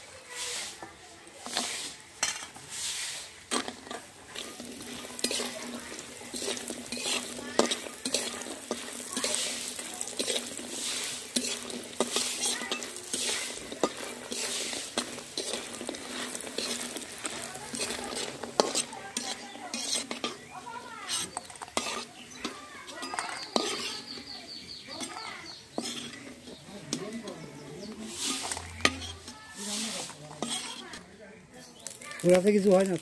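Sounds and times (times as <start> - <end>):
potatoes sizzling in oil: 0.0 - 33.0
metal spatula scraping pan: 0.2 - 31.1.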